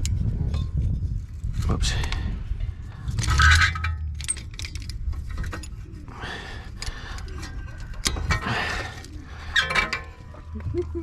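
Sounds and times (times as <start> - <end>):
metal tools clinking and rattling: 0.4 - 10.7.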